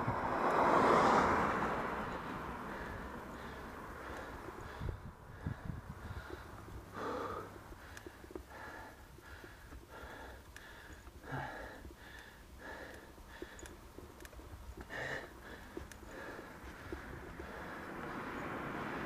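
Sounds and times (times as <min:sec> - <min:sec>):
person breathing hard: 0:02.0 - 0:14.1, 0:14.7 - 0:18.7.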